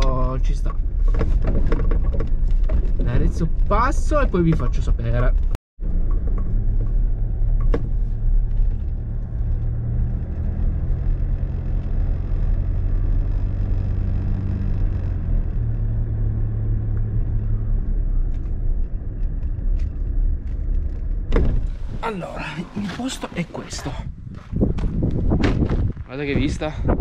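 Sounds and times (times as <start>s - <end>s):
car engine droning: 0.0s - 23.9s.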